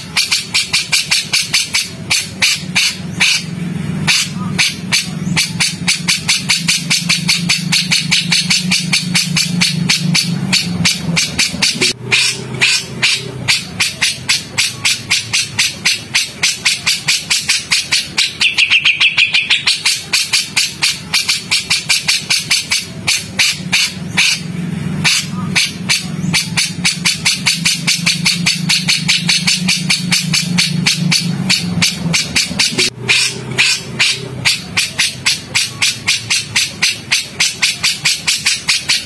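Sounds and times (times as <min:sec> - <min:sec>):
low hum: 0:00.0 - 0:39.0
songbird chattering: 0:00.0 - 0:39.0.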